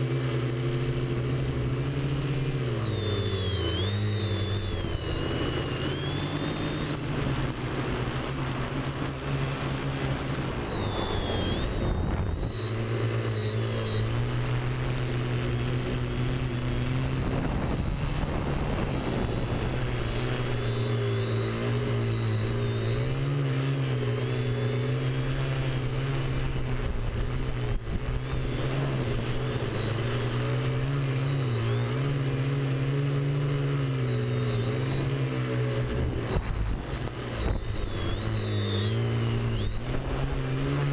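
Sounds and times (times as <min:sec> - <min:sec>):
drone motors buzzing: 0:00.0 - 0:40.9
faint high whine: 0:00.0 - 0:40.9.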